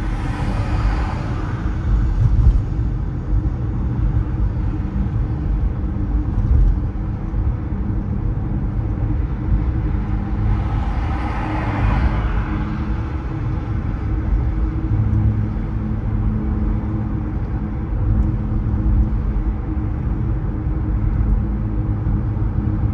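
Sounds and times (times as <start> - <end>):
car road rumble: 0.0 - 22.9.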